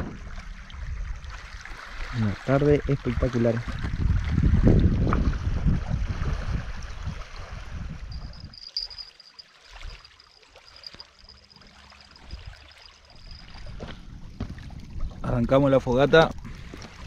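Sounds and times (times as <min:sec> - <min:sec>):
wind rumble on microphone: 0:00.0 - 0:09.0, 0:12.2 - 0:17.0.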